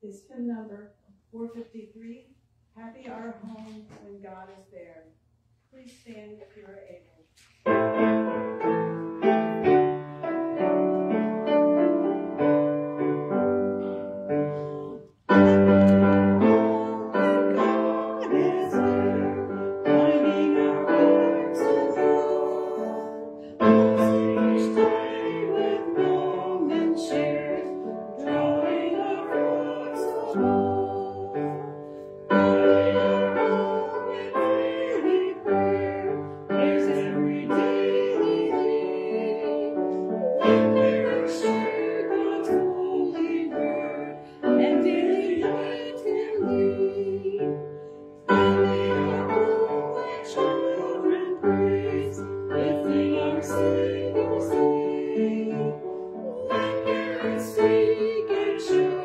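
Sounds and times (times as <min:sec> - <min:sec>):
piano accompaniment: 0:07.6 - 0:59.0
congregation singing a hymn: 0:07.9 - 0:59.0.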